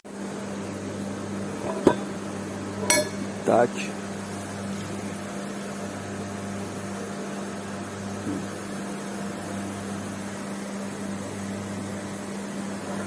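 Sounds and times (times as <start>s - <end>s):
low machine hum: 0.2s - 13.0s.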